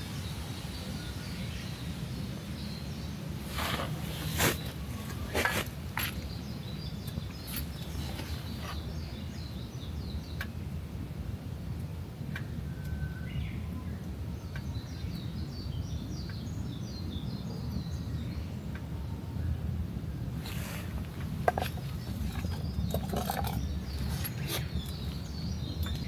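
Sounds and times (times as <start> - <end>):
small birds chirping: 0.0 - 10.6, 12.3 - 19.0, 20.3 - 26.0.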